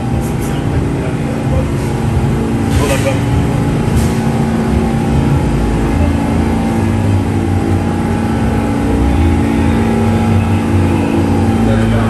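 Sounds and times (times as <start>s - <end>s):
steady hum: 0.0s - 12.0s
subway train rumbling: 0.0s - 12.0s.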